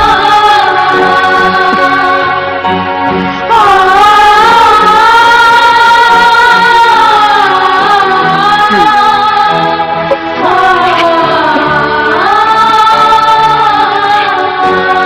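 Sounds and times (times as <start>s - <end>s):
soft sustained backing music: 0.0s - 15.0s.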